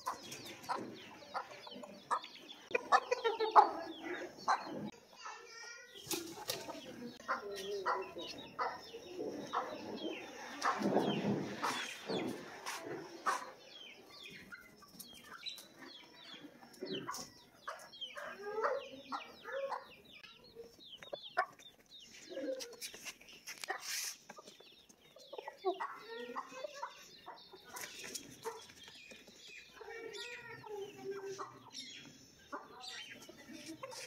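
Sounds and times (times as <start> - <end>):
hens clucking: 0.0 - 5.3, 6.0 - 34.0
chicks peeping: 0.0 - 34.0.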